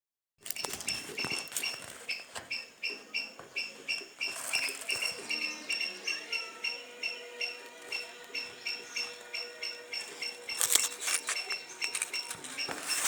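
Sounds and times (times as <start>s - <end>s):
animal chirping: 0.5s - 13.0s.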